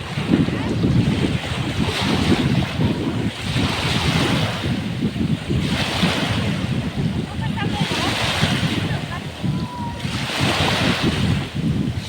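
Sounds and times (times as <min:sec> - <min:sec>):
sea surf washing onto beach: 0:00.0 - 0:12.0
wind buffeting microphone: 0:00.0 - 0:12.0.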